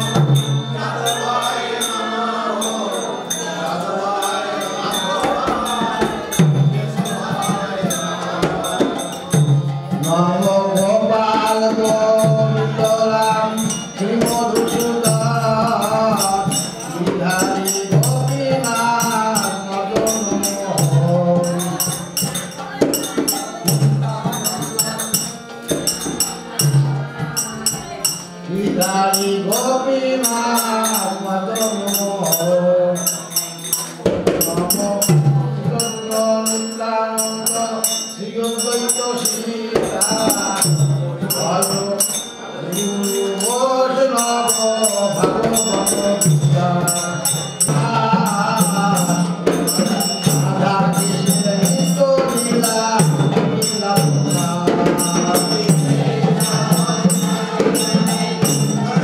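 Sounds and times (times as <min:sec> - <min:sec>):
devotional singing: 0:00.0 - 0:59.0
jingling hand percussion: 0:00.0 - 0:59.0.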